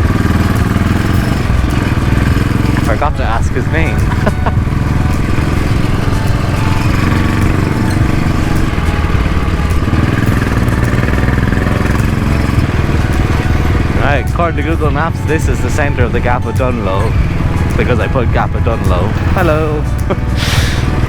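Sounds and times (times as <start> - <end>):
motorcycle engine running: 0.0 - 21.0
noisy rush: 0.0 - 21.0.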